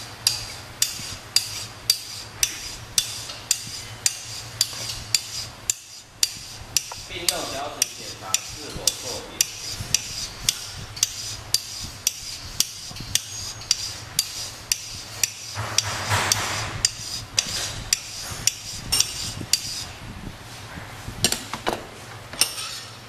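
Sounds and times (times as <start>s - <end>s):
file scraping on steel: 0.0s - 19.9s.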